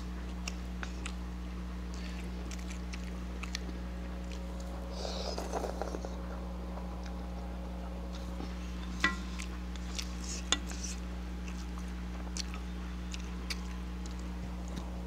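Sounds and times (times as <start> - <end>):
low steady hum: 0.0 - 15.0
faint chewing: 0.2 - 15.0.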